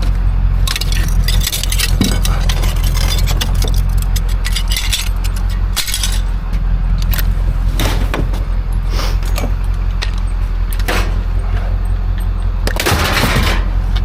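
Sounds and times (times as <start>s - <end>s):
low motor drone: 0.0s - 14.0s
metallic clanks and knocks: 0.0s - 14.0s
rattling and scraping: 0.0s - 14.0s.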